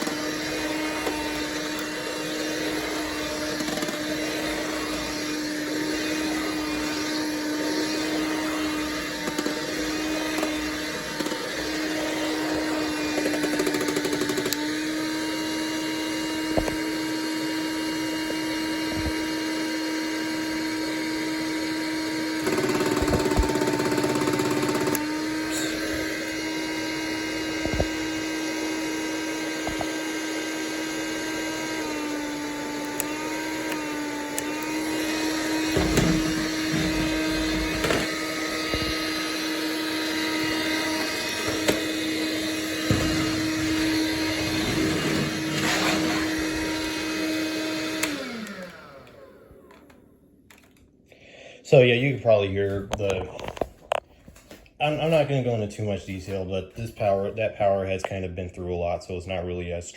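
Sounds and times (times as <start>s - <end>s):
stick vacuum motor whine: 0.0s - 50.8s, 51.4s - 58.9s.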